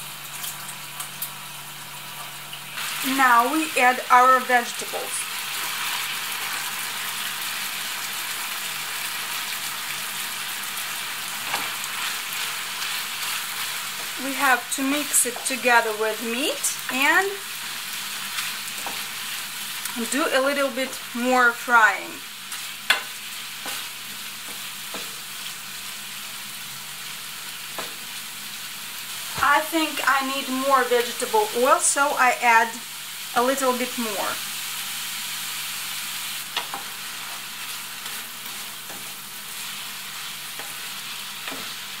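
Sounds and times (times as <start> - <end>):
chicken sizzling in a frying pan: 0.0 - 42.0.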